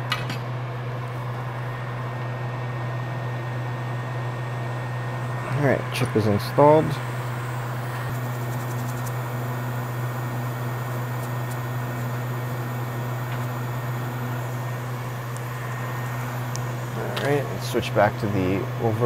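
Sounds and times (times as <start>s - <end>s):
fan whirring: 0.0s - 19.0s.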